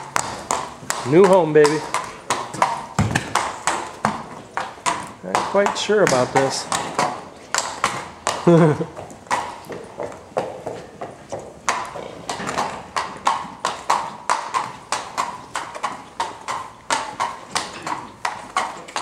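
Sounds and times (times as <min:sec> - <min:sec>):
hooves clip-clopping on concrete: 0:00.0 - 0:19.0.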